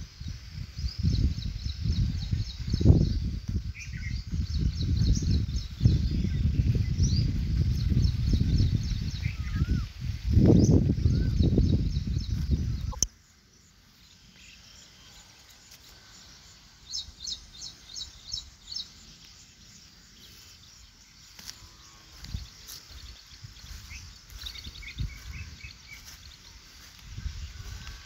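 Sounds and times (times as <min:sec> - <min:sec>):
faint outdoor ambience: 0:00.0 - 0:28.0
small bird chirping: 0:00.0 - 0:28.0.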